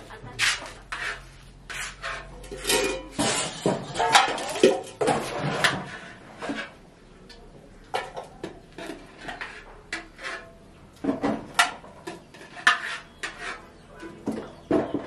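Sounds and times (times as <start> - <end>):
metal spoon scraping pots: 0.0 - 6.9, 7.8 - 15.0.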